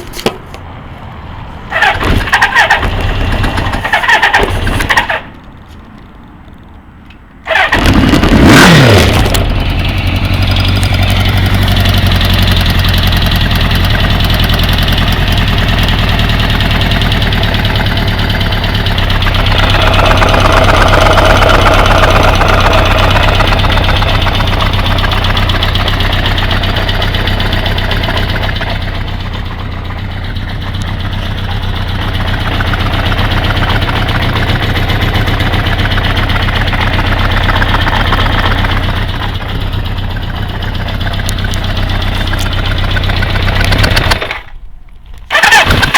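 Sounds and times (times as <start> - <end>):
ticking clacking engine noise: 0.0 - 45.9
motorcycle engine running: 1.7 - 5.2, 7.5 - 44.5, 45.3 - 45.9.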